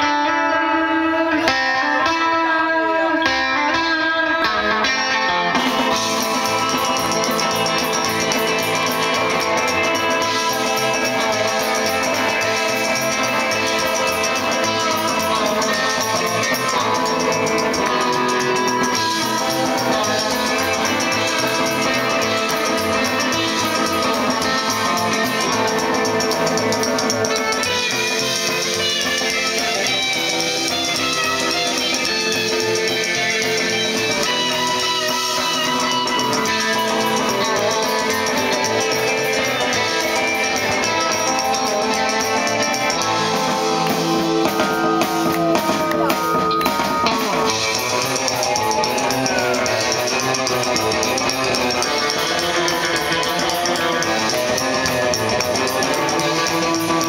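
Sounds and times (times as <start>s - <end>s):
electric guitar: 0.0s - 57.0s
rockabilly band playing: 0.0s - 57.0s.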